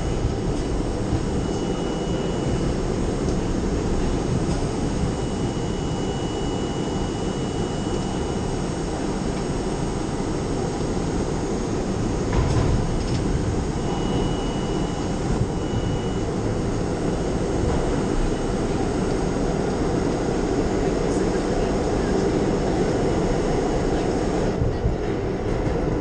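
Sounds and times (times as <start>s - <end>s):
faint high whine: 0.0s - 24.5s
subway wheels rumbling on rail: 0.0s - 26.0s.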